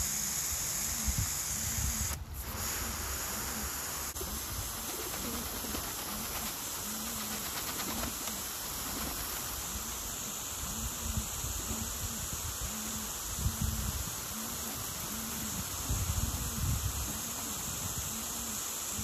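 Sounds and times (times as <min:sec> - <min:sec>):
water spraying from hose: 0:00.0 - 0:19.0
pigeons cooing: 0:03.2 - 0:19.0.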